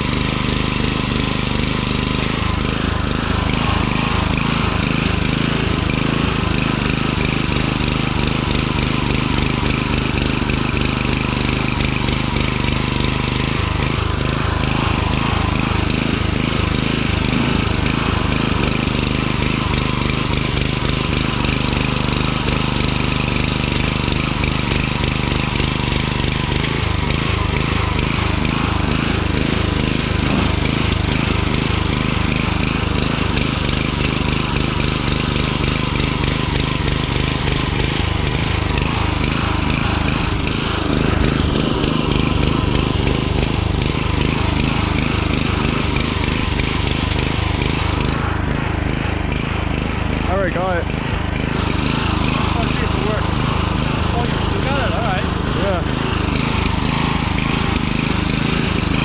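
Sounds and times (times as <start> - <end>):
garden tiller engine running: 0.0 - 59.0.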